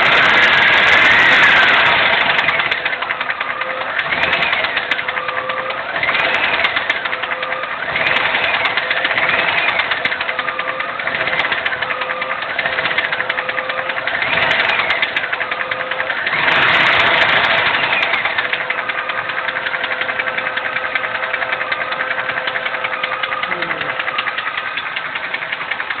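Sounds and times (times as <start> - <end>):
engine revving and idling: 0.0 - 26.0
fast engine ticking: 0.0 - 26.0.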